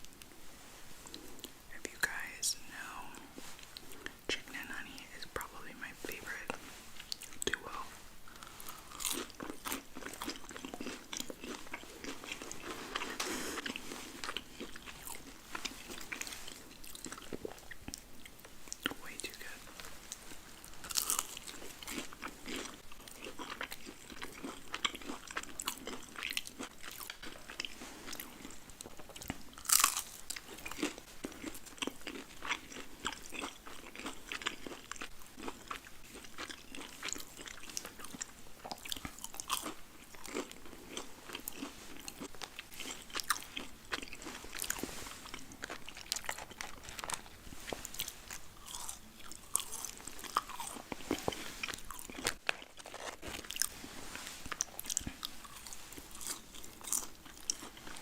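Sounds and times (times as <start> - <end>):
crunchy bites and chewing: 6.4 - 19.6, 20.5 - 58.0.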